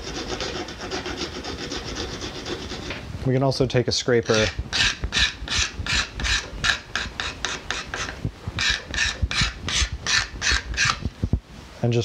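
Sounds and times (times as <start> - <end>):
hand scraper scraping wood: 0.0 - 3.0, 4.3 - 11.1.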